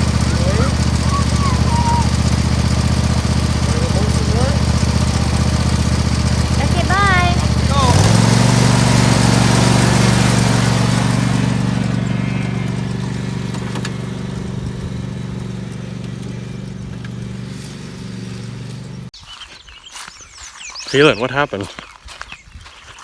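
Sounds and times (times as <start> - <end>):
riding lawn mower engine running: 0.0 - 19.1.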